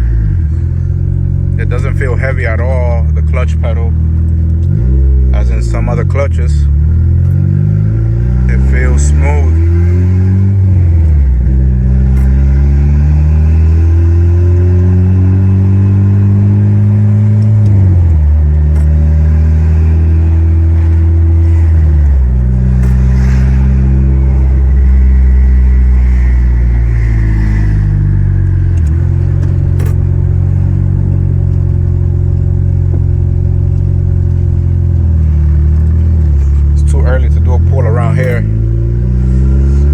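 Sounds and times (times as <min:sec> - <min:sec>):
four-cylinder engine accelerating: 0:00.0 - 0:39.9.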